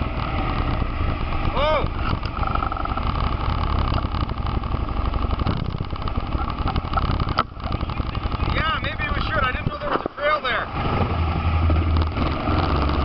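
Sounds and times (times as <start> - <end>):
quad engines idling: 0.0 - 13.0.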